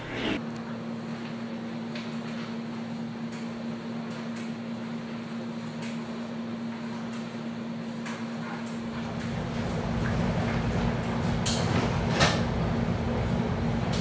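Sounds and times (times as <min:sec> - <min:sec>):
washers and dryers humming: 0:00.0 - 0:14.0.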